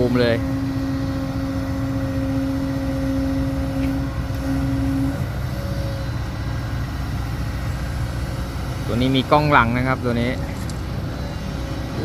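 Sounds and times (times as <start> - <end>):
diesel truck engine running: 0.0 - 12.0
steady whine: 0.0 - 12.0.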